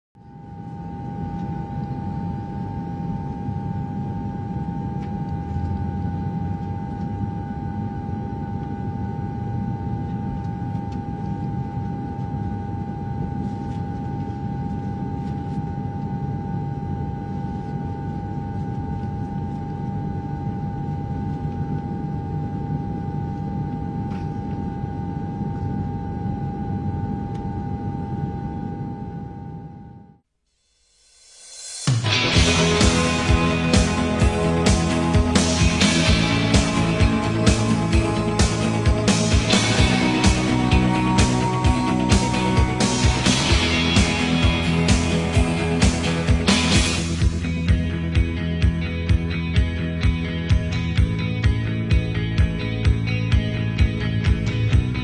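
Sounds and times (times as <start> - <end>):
constant high whine: 0.2 - 55.0.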